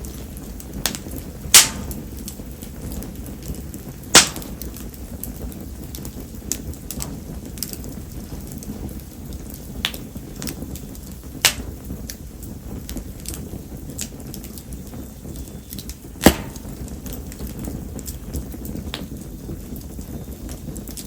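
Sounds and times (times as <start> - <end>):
flames burning: 0.0 - 21.0
rain: 0.0 - 21.0.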